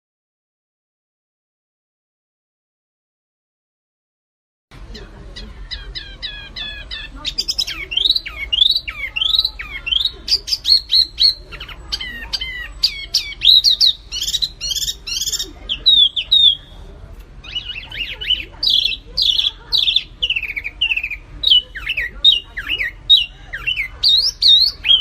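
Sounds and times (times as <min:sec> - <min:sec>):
songbirds singing: 0:04.8 - 0:25.0.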